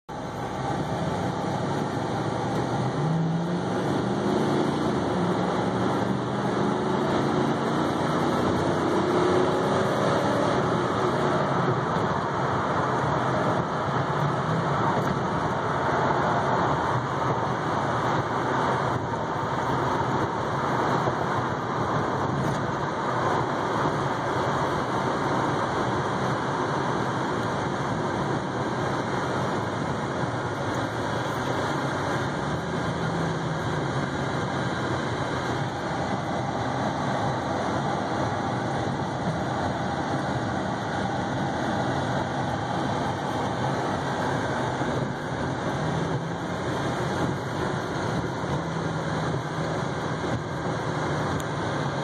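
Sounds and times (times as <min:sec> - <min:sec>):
car engine accelerating: 0:00.1 - 0:52.0
road noise: 0:00.1 - 0:52.0.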